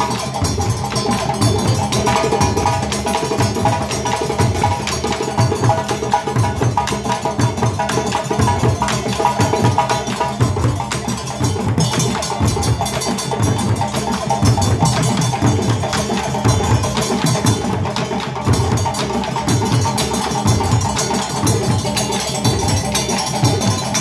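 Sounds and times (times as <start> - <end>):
hand drums playing fast rhythm: 0.0 - 24.0.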